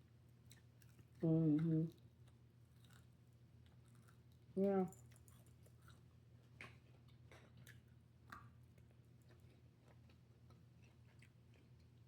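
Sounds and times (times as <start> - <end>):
chewing salad: 0.1 - 12.0.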